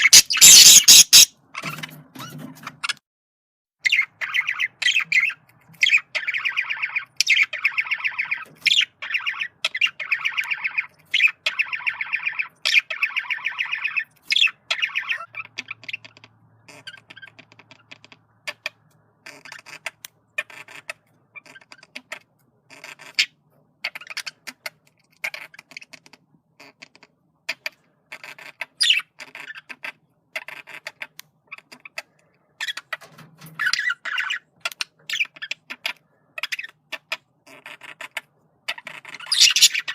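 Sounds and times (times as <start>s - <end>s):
budgerigar chattering: 0.0s - 1.3s, 3.8s - 32.9s, 33.6s - 39.9s.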